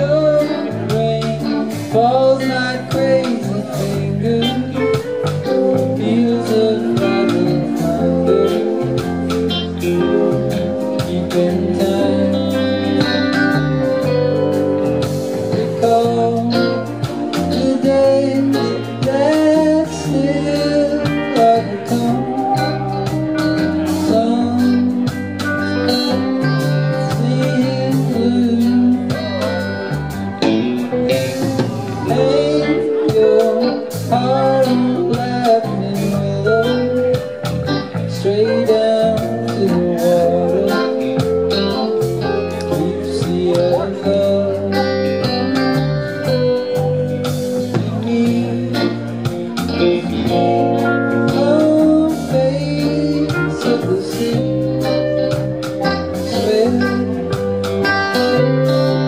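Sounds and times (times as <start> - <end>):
bass: 0.0 - 59.0
drums: 0.0 - 59.0
electric guitar melody: 0.0 - 59.0.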